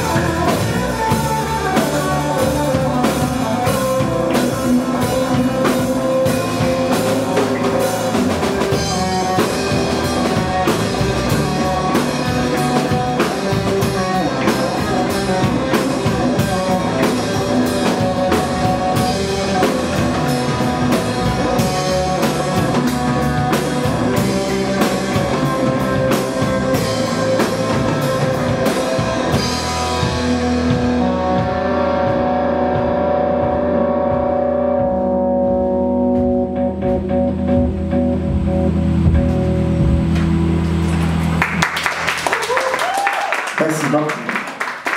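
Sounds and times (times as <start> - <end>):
held guitar and bass chord: 0.0 - 42.3
drum kit beat: 0.0 - 44.9
rock band playing: 0.0 - 44.9.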